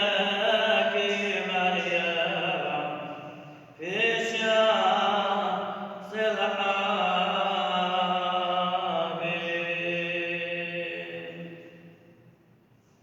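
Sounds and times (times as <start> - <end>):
man chanting: 0.0 - 11.8.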